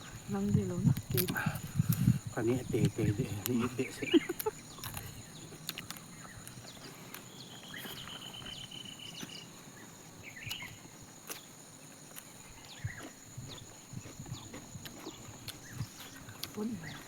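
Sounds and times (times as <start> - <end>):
insects chirring: 0.0 - 17.0
rapid pulsed insect trill: 0.0 - 17.0.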